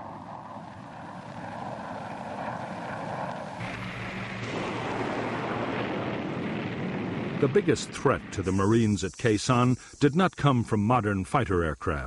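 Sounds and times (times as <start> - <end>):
aircraft engine roar: 0.0 - 10.0.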